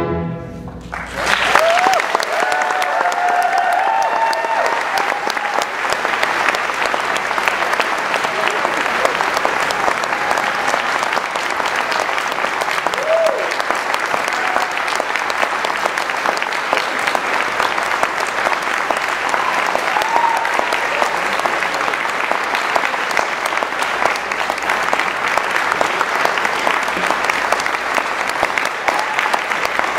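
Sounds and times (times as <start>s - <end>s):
audience applauding: 0.8s - 29.9s
audience cheering: 0.9s - 29.9s.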